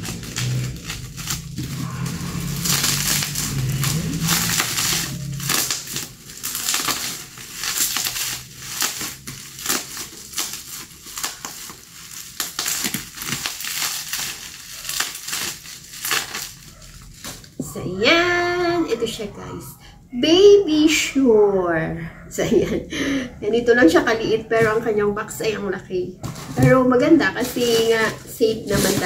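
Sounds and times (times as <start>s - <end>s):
bubble wrap crinkling: 0.0s - 19.0s, 24.5s - 29.0s.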